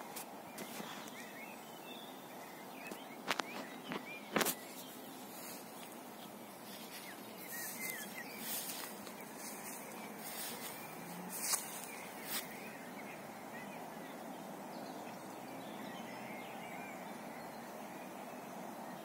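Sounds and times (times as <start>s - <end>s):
background hiss: 0.0s - 19.0s
distant birds chirping: 0.0s - 19.0s.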